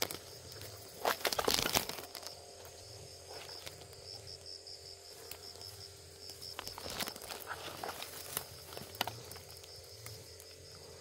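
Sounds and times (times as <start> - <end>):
rustling and crackling: 0.0 - 4.5, 5.1 - 11.0
insect chirping: 0.0 - 11.0.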